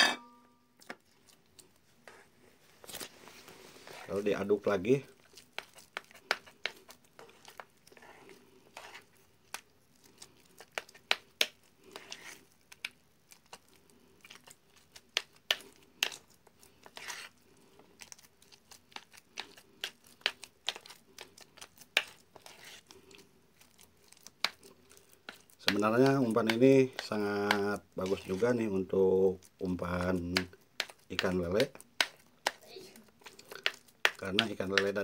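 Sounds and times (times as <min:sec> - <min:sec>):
paste squelching: 0:00.8 - 0:03.1, 0:03.7 - 0:35.0.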